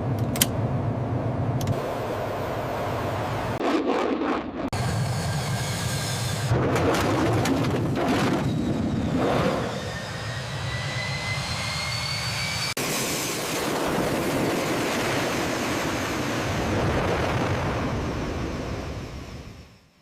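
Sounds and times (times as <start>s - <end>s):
jet engines at high power: 0.0s - 20.0s
rising whine: 0.9s - 19.8s.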